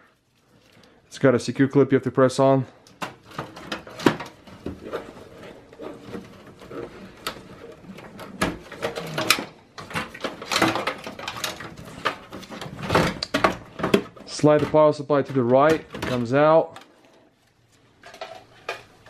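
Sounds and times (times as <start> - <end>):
wires scraping against metal: 2.9 - 19.0.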